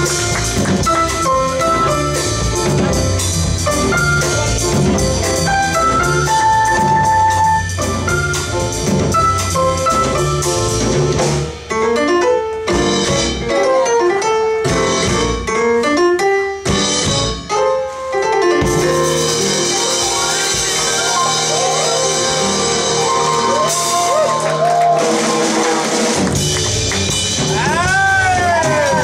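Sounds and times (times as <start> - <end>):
upright bass: 0.0 - 13.6, 14.6 - 16.0, 16.6 - 17.6, 18.6 - 29.0
drum kit: 0.0 - 29.0
piano: 0.0 - 29.0.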